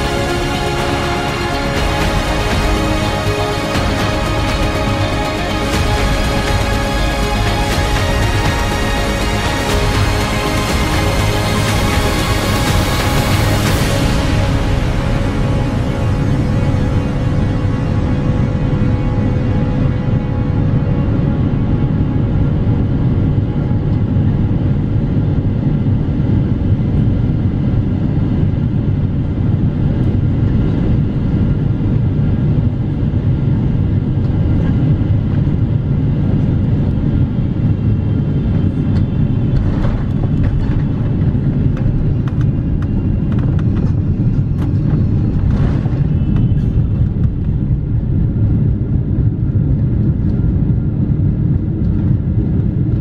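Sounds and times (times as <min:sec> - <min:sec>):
aircraft cabin engine rumble: 0:00.0 - 0:53.0.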